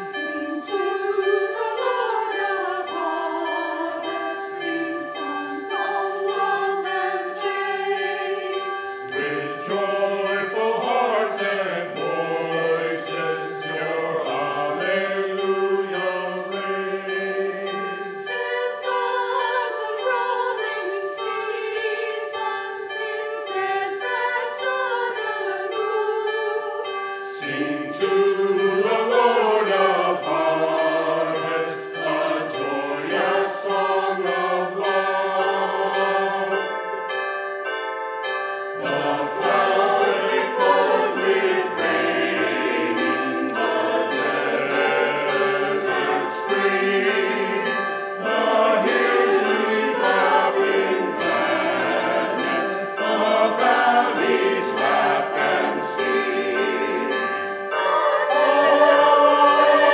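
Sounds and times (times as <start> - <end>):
choir singing sacred music: 0.0 - 59.9.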